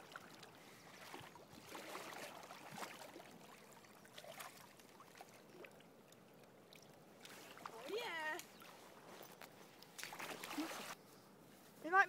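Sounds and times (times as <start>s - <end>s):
soft water splashes: 0.0s - 11.0s
low water hiss: 0.0s - 11.9s.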